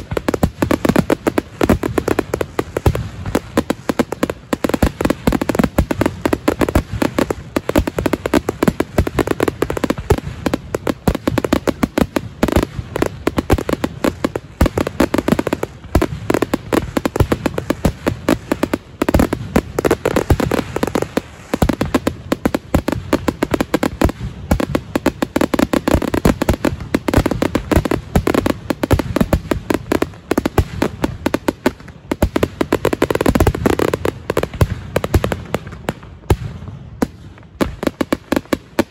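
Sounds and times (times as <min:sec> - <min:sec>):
firework rockets banging: 0:00.0 - 0:38.9.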